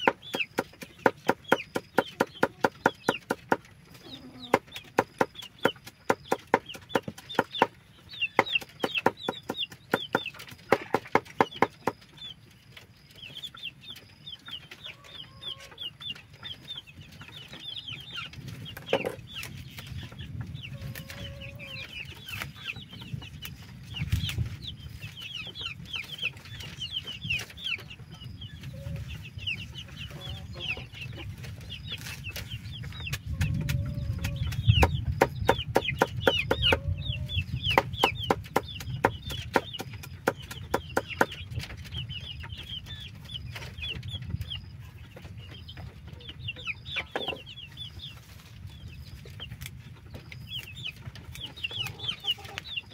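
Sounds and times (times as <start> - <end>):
chickens clucking: 0.0 - 52.9
high falling chick peeps: 0.0 - 52.9.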